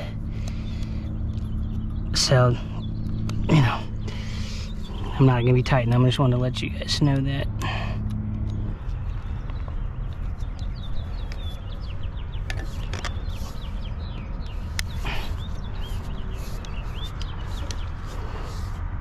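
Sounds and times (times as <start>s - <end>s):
birds chirping: 0.0s - 19.0s
low steady rumble: 0.0s - 19.0s.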